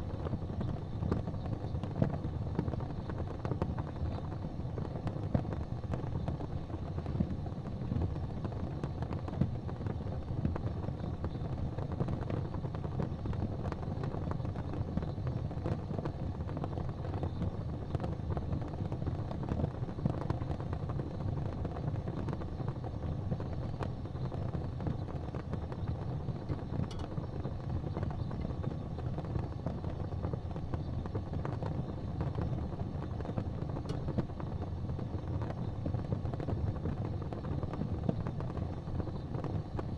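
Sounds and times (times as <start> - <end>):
fire flames rumbling: 0.0 - 39.9
wood fire crackling: 0.0 - 39.9
wood fire popping: 0.0 - 39.9.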